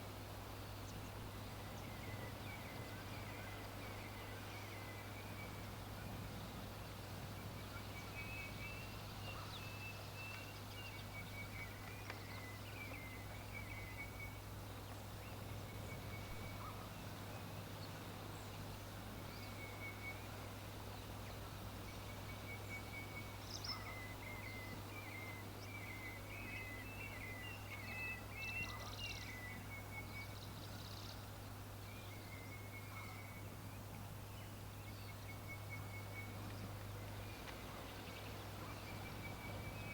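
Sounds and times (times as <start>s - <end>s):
faint bird twittering: 0.6s - 39.9s.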